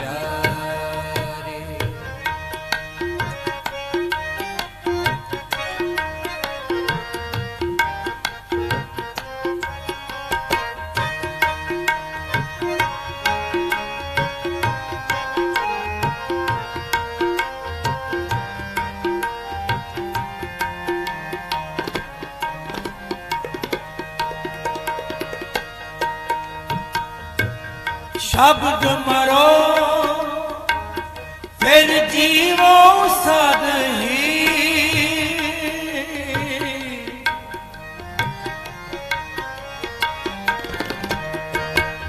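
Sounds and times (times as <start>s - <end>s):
tabla drumming: 0.0s - 42.0s.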